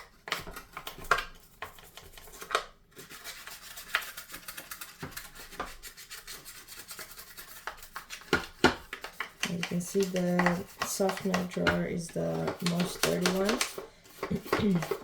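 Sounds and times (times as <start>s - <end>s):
toothbrush scrubbing plastic: 0.0s - 15.0s.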